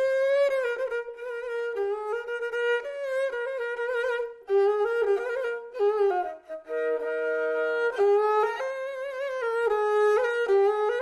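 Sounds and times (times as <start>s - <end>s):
bowed fiddle melody: 0.0s - 11.0s.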